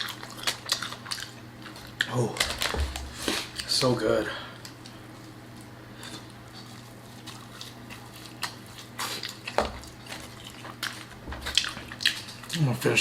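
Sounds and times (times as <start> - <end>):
shellfish peeling and eating: 0.0 - 13.0
steady low hum: 0.0 - 13.0.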